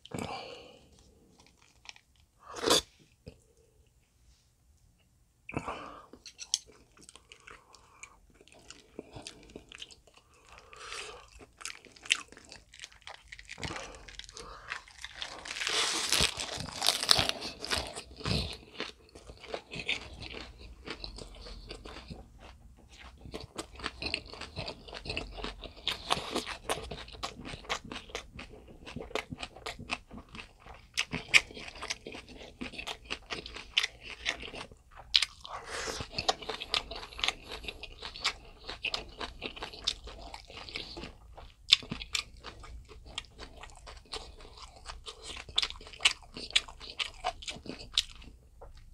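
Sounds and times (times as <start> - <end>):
crunching and chewing cabbage: 0.0 - 2.9, 6.5 - 48.9.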